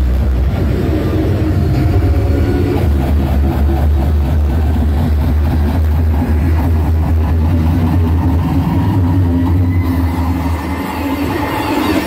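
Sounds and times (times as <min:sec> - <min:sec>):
hardcore techno on sound system: 0:00.0 - 0:12.0.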